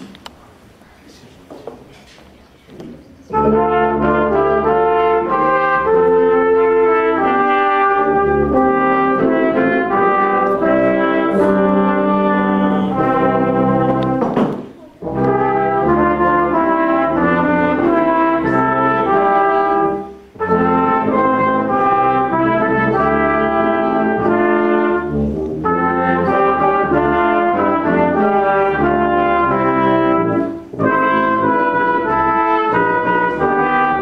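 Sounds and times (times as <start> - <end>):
brass instruments playing chords: 3.3 - 34.0.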